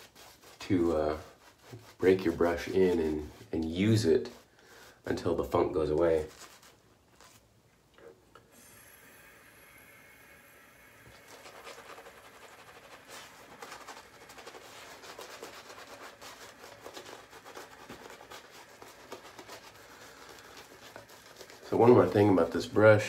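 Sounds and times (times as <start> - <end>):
shaving brush rubbing lather: 0.0 - 7.4, 8.7 - 23.0.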